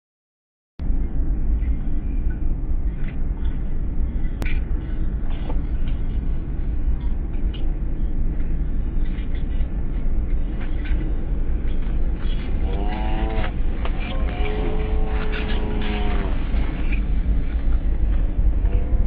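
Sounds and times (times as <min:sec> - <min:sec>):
low rumbling noise: 0:00.8 - 0:19.0.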